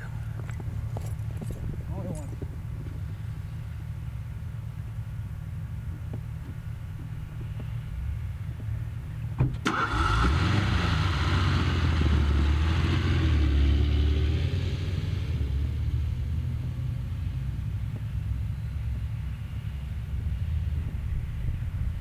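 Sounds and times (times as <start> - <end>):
car engine rumbling: 0.0 - 22.0
road noise: 0.0 - 22.0.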